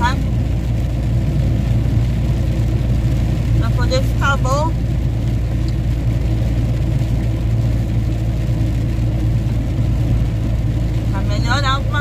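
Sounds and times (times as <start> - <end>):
road noise: 0.0 - 12.0
truck diesel engine drone: 0.0 - 12.0.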